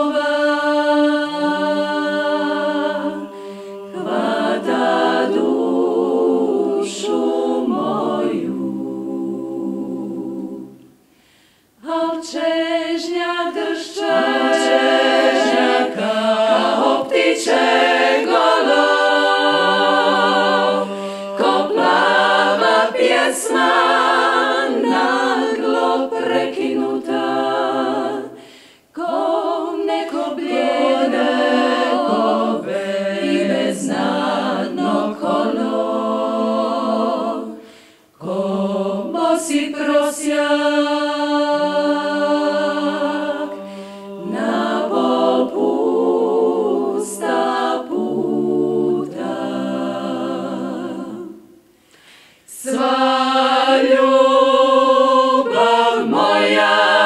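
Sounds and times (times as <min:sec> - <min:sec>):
women singing a cappella harmony: 0:00.0 - 0:11.0, 0:11.6 - 0:57.0.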